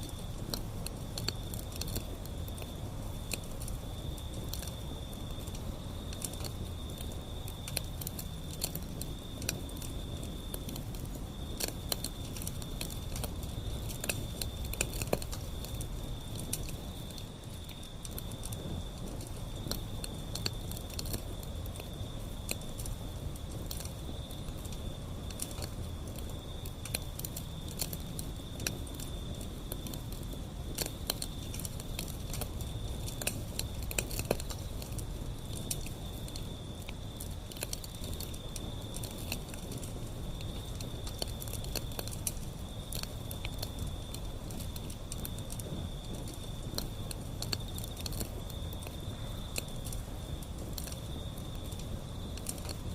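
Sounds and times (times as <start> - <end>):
low fire rumble: 0.0 - 52.9
wood fire crackling and popping: 0.0 - 52.9.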